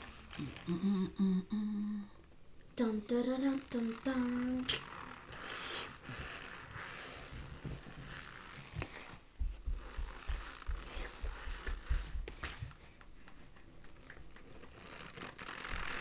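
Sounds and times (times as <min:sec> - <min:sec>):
faint rustling: 0:02.0 - 0:16.0.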